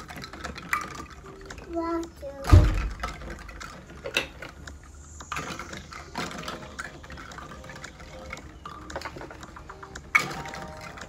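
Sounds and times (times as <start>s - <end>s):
plastic toys clicking and knocking: 0.0s - 11.0s.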